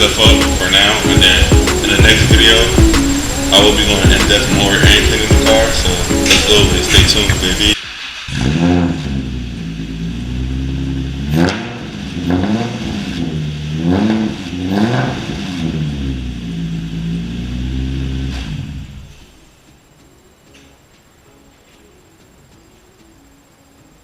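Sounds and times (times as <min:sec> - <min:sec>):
car engine revving and idling: 0:00.0 - 0:19.4.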